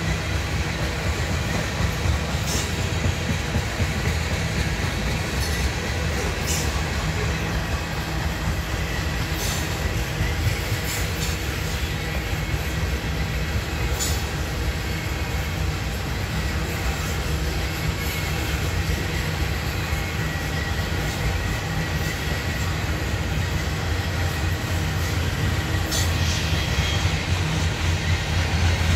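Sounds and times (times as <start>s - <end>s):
freight train wheels rumbling on rail: 0.0s - 28.9s.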